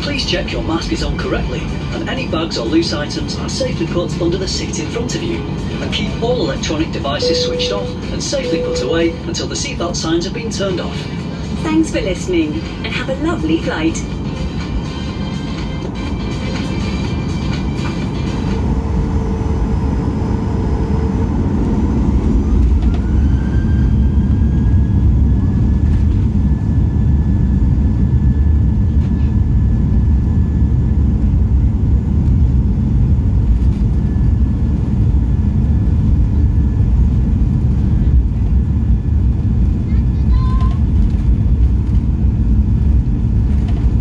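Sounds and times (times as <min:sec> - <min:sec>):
jet engines whining and rumbling: 0:00.0 - 0:44.0.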